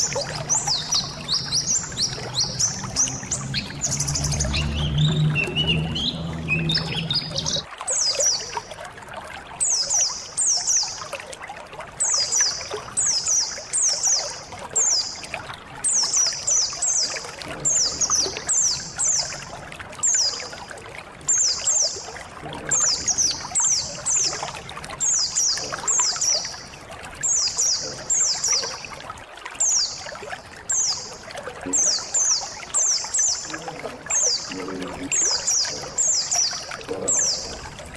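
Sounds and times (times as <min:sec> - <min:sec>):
birds chirping: 0:00.0 - 0:08.7, 0:09.6 - 0:11.2, 0:12.0 - 0:29.0, 0:29.6 - 0:37.9
trickling water: 0:00.0 - 0:37.9.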